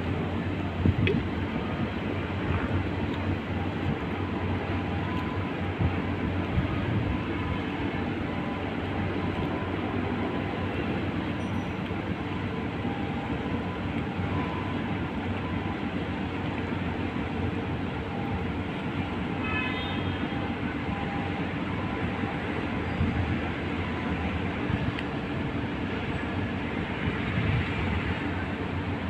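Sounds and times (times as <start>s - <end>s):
marine engine droning: 0.0s - 29.0s
rushing noise: 0.0s - 29.0s.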